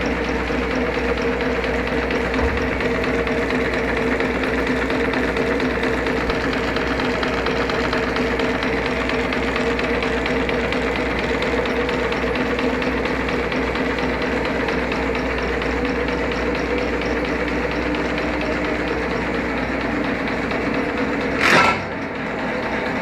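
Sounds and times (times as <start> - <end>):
milling machine hum: 0.0 - 23.0.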